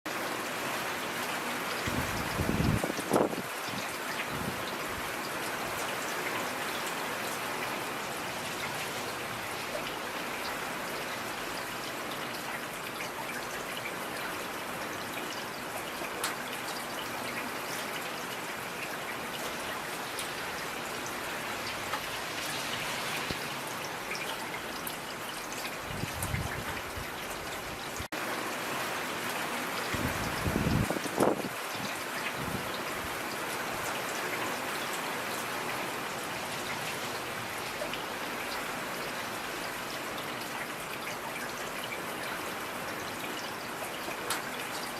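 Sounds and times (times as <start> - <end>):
steady rain with dripping: 0.1 - 44.9.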